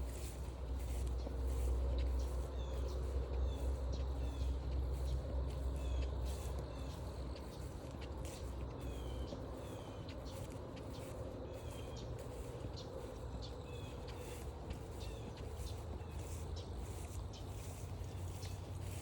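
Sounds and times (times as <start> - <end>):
low wind-like rumble: 0.0 - 19.0.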